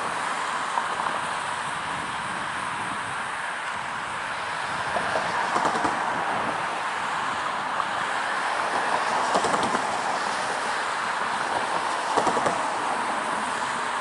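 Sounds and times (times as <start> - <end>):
diesel freight train: 0.0 - 14.0.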